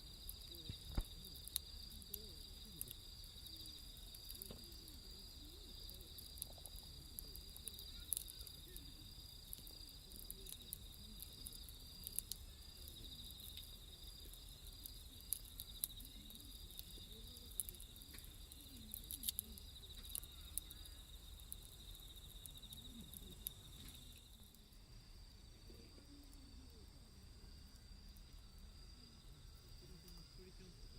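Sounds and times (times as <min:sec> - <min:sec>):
wood fire crackling and popping: 0:00.0 - 0:24.9
night insects chirring: 0:00.0 - 0:30.9.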